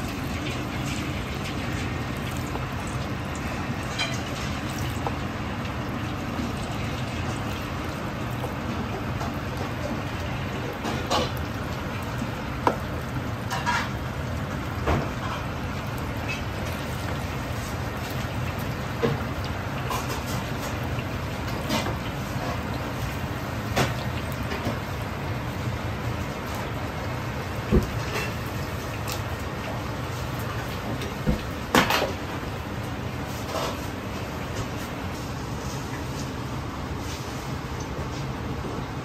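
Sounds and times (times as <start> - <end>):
oil sizzling: 0.0 - 39.0.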